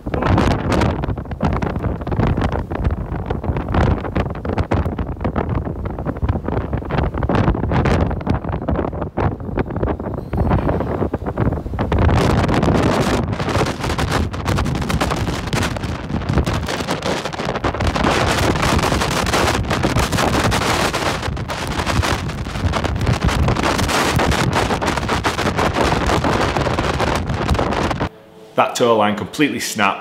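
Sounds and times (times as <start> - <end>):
wind buffeting microphone: 0.0 - 28.2.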